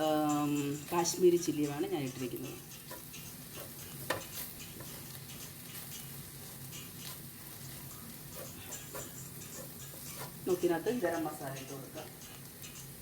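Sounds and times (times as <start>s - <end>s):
faint sizzle of frying: 0.0s - 13.0s
spoon ticking against pan: 0.0s - 13.0s.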